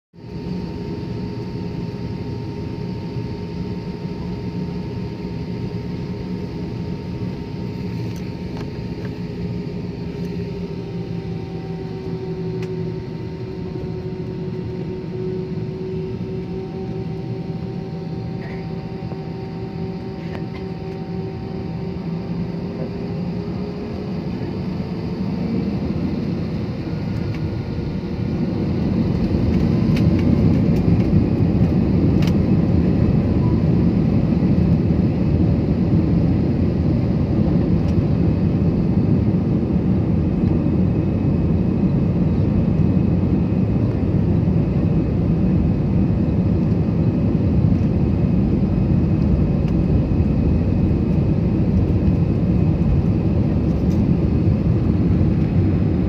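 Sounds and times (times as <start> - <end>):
jet engines humming: 0.2 - 56.0.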